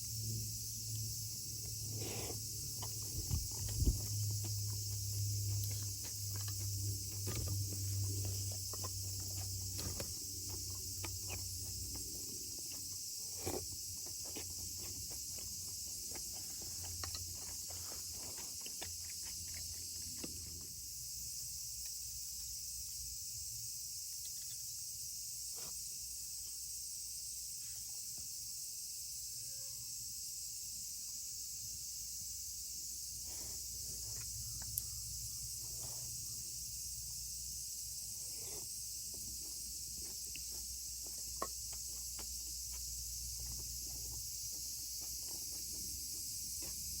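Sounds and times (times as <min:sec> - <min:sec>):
insects chorus: 0:00.0 - 0:47.0.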